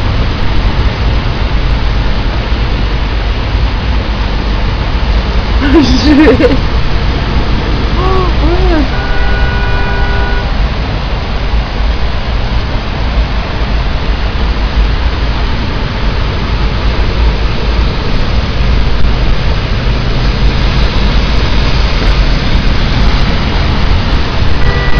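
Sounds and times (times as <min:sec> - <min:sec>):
deep rumble: 0:00.0 - 0:09.6, 0:10.4 - 0:24.9
cars driving through floodwater: 0:00.0 - 0:24.9
heavy rain pouring: 0:00.0 - 0:24.9.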